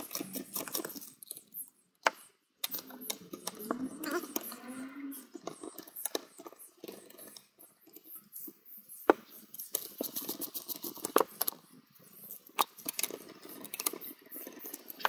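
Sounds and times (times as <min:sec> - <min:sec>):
light scraping of small parts: 0:02.6 - 0:15.0.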